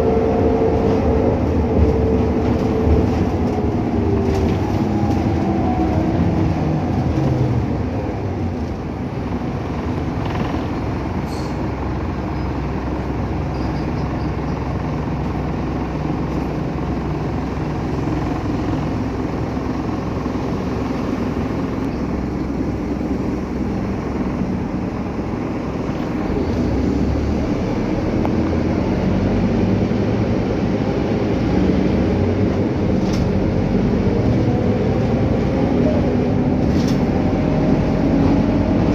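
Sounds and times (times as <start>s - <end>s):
bus diesel engine running: 0.0s - 38.9s
road and body noise: 0.0s - 38.9s.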